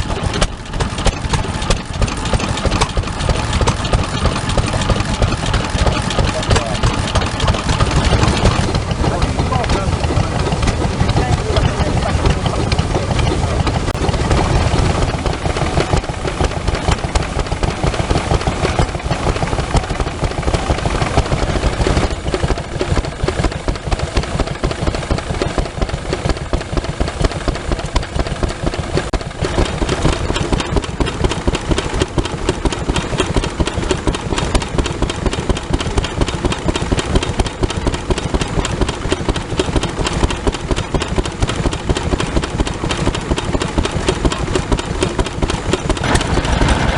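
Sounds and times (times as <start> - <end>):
stationary engine running: 0.0 - 46.9.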